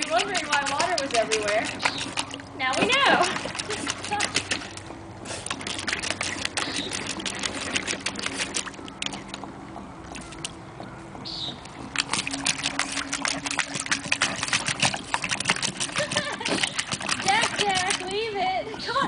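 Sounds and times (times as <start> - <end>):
dog splashing water: 0.0 - 10.6, 11.6 - 18.4.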